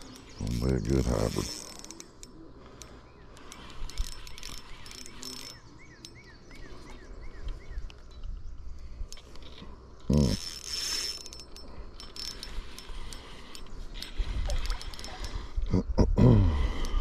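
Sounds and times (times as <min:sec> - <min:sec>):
fishing reel clicking and whirring: 0:00.0 - 0:06.9, 0:07.5 - 0:15.7, 0:16.6 - 0:17.0.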